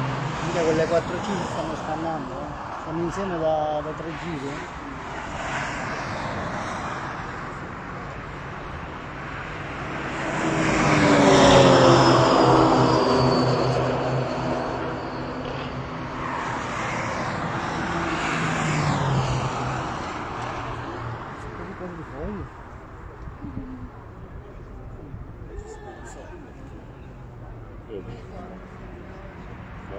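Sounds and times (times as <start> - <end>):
cars passing at speed: 0.0 - 25.5, 26.6 - 29.9.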